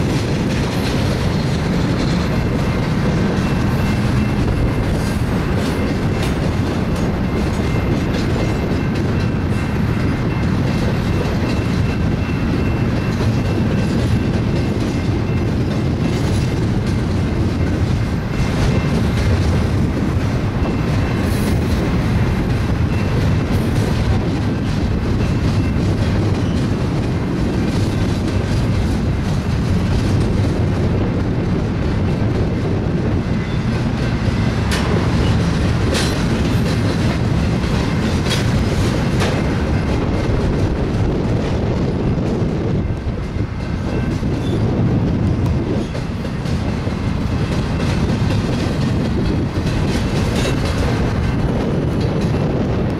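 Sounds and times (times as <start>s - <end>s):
train cars rumbling: 0.0s - 52.9s
wheels clacking over rail joints: 0.0s - 52.9s.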